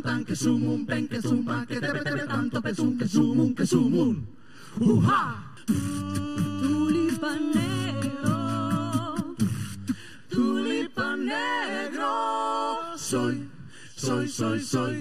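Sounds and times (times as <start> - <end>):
a cappella quartet singing: 0.0 - 15.0.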